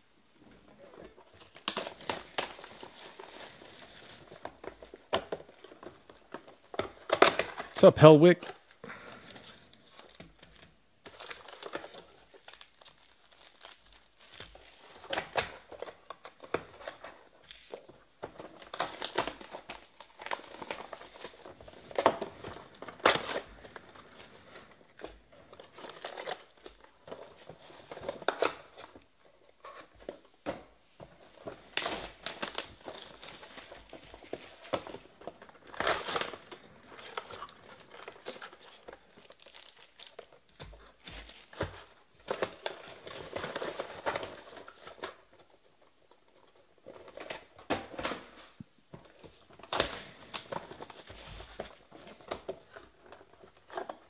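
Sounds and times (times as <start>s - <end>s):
pack wrappers crinkling and tearing: 0.8s - 7.8s, 8.6s - 30.3s, 31.2s - 54.0s.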